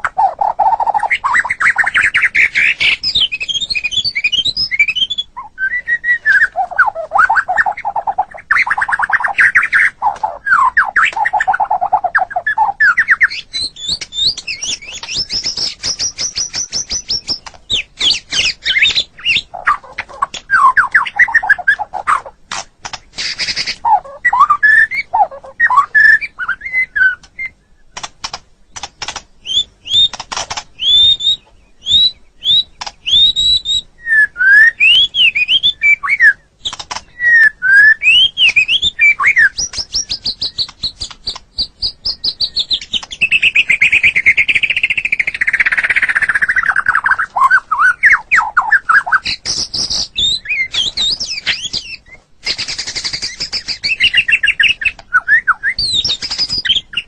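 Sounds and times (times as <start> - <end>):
bird singing varied song: 0.0 - 57.0.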